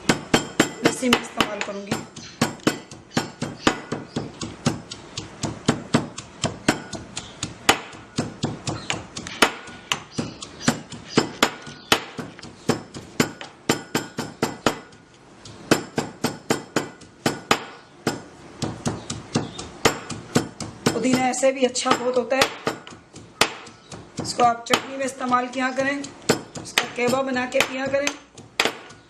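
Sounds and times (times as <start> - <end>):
pestle pounding leaves: 0.0 - 29.0.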